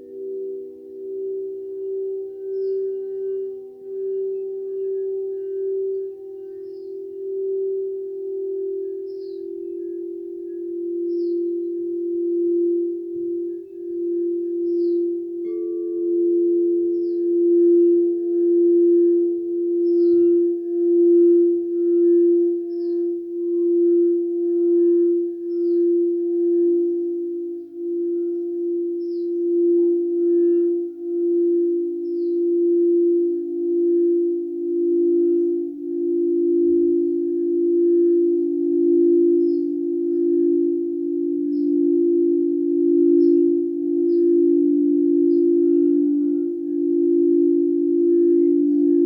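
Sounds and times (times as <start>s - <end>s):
singing bowls ringing: 0.0s - 49.0s.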